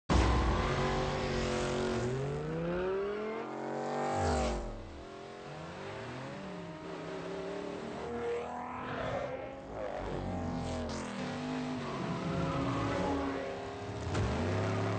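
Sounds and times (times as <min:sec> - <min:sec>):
car engine revving: 0:00.1 - 0:14.9.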